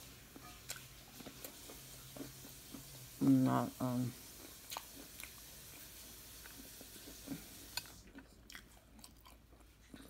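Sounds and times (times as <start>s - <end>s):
chewing and mouth clicks: 0.4s - 2.9s, 4.3s - 10.0s.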